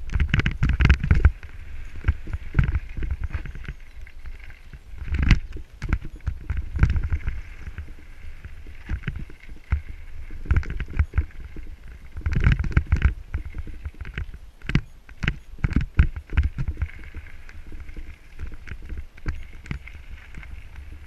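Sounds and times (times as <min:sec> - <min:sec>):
tyres crunching over stones: 0:00.0 - 0:21.0.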